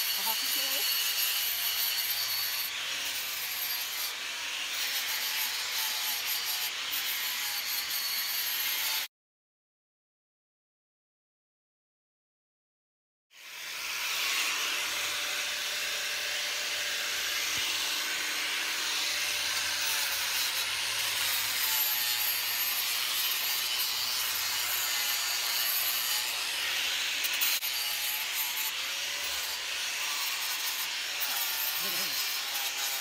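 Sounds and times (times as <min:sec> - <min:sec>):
angle grinder sanding wood: 0:00.0 - 0:09.1, 0:13.4 - 0:33.0.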